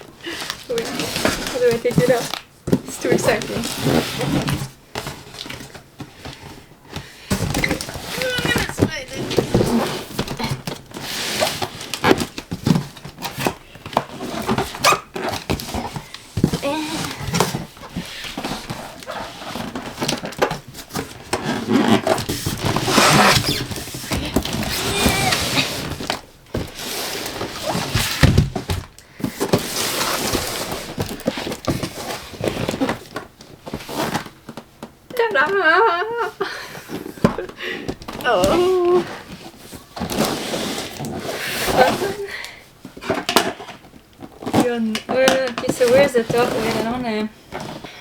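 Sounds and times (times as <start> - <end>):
cardboard and packing rustling: 0.0 - 48.0.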